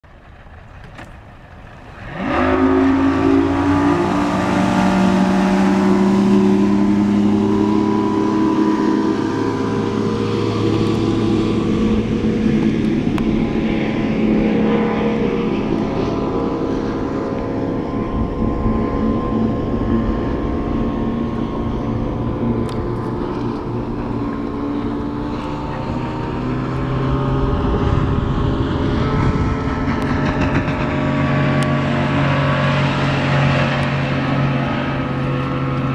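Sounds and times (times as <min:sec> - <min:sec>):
outboard motor running at high speed: 0:00.1 - 0:35.9.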